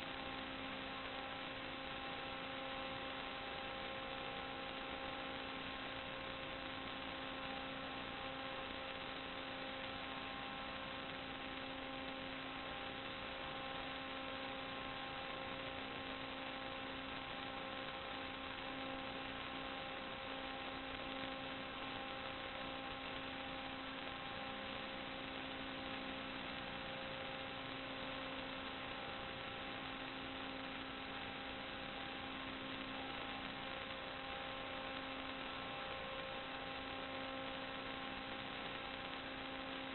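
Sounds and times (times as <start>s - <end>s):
electrical hum with tones: 0.0s - 39.9s
static hiss: 0.0s - 39.9s.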